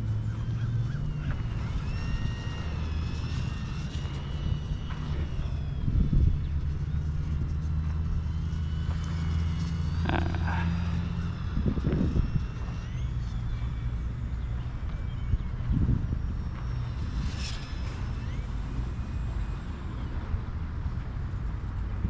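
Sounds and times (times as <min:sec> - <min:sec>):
model airplane motor whine: 0:00.0 - 0:22.0
vehicle engine rumble: 0:00.0 - 0:22.0.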